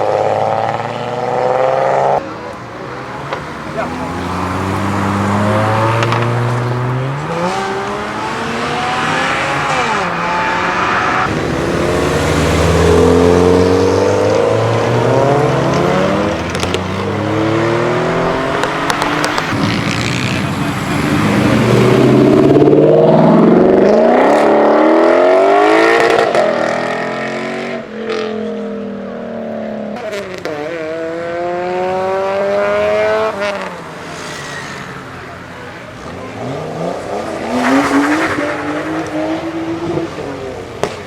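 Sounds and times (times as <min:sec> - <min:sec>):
cars accelerating and revving: 0:00.0 - 0:41.0.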